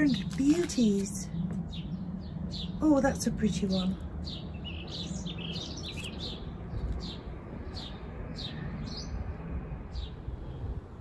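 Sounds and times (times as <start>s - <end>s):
small birds chirping: 0.0s - 9.3s
low steady rumble: 0.0s - 11.0s.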